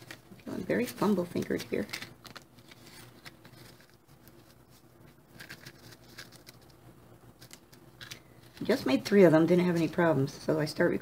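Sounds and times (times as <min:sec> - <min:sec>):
paper funnel rustling: 0:00.0 - 0:06.8, 0:07.4 - 0:10.2.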